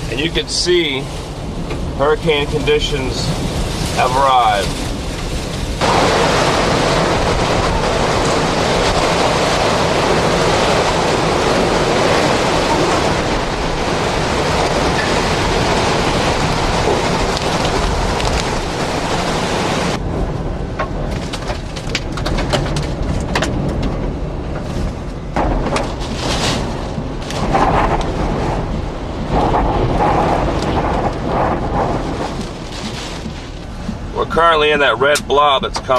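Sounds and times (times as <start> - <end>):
low wind rumble: 0.0 - 35.9
wind and driving rain on microphone: 0.0 - 35.9.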